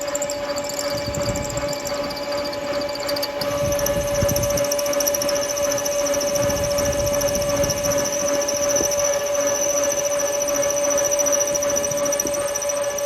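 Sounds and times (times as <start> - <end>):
lathe drilling into metal: 0.0 - 13.0.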